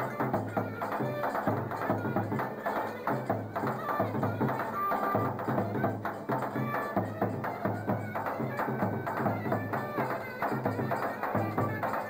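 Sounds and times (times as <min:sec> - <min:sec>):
drum beating steady rhythm: 0:00.0 - 0:12.0.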